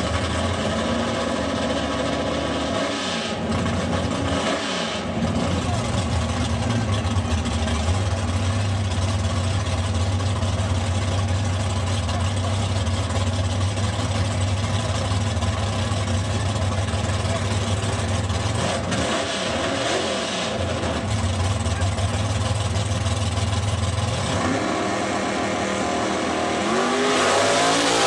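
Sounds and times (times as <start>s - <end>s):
car engine idling low rumble: 0.0s - 2.7s, 3.3s - 4.4s, 5.0s - 19.7s, 20.4s - 26.7s.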